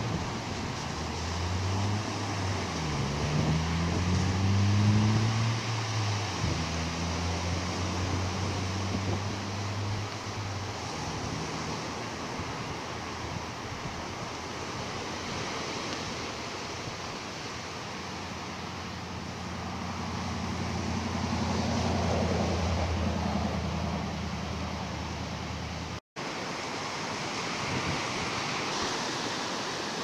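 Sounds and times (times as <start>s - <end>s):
wind buffeting microphone: 0.0s - 25.7s
ocean surf breaking: 0.0s - 30.0s.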